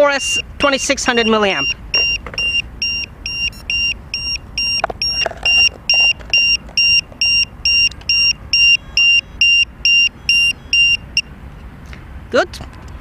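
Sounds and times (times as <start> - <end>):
high-pitched alarm beeps: 0.0 - 11.3.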